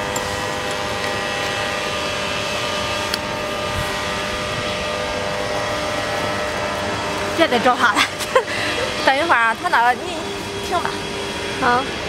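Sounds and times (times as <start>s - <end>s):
steady mechanical drone: 0.0s - 12.0s.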